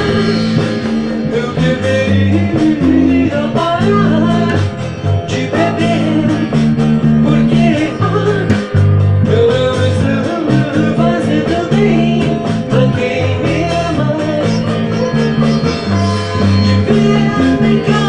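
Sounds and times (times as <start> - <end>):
bass guitar low notes: 0.0 - 18.0
drums: 0.0 - 18.0
electric guitar: 0.0 - 18.0
person singing: 0.0 - 18.0.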